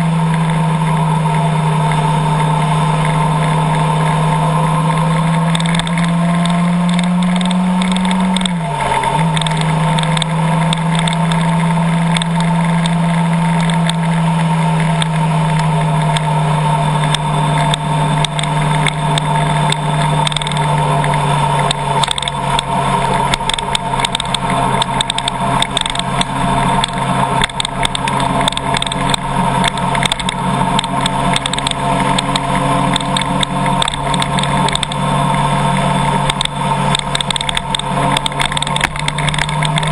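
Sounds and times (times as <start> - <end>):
car engine hum: 0.0 - 39.9
patter of sharp ticks: 0.2 - 39.9.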